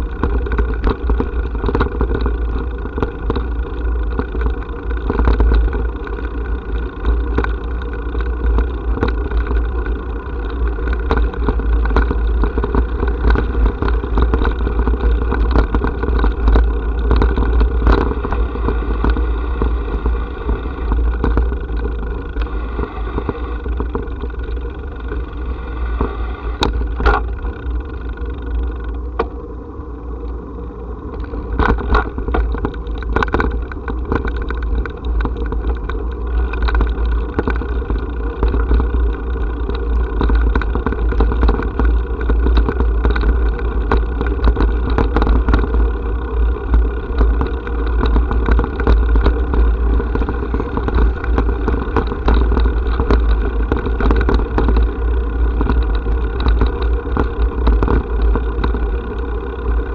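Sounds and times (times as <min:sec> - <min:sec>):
rattling clicks over brick paving: 0:00.0 - 0:59.9
vehicle low rumble: 0:00.0 - 0:59.9.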